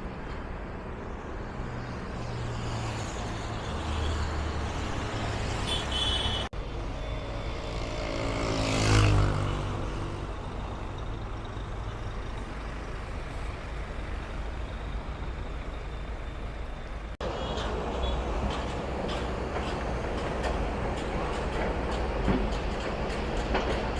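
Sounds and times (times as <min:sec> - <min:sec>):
road traffic noise: 0:00.0 - 0:23.9.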